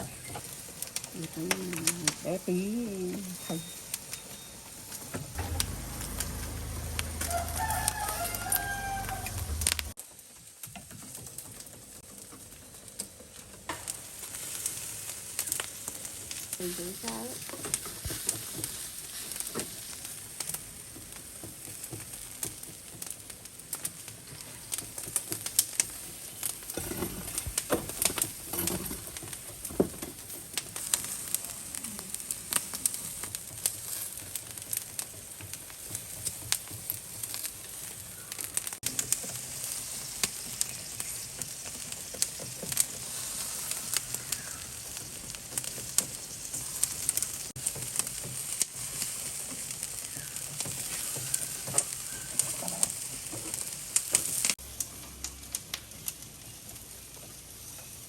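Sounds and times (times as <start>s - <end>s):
food sizzling on grill: 0.0s - 58.0s.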